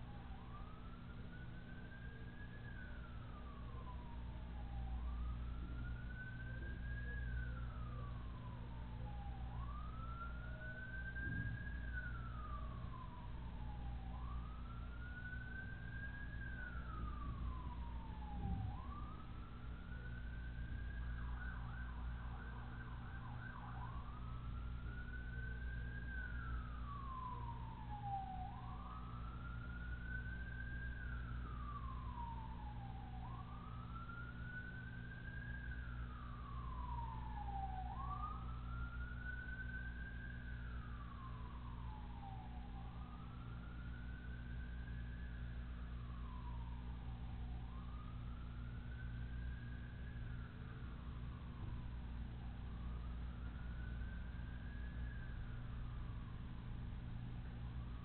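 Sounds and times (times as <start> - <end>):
emergency siren wailing: 0.0 - 58.0.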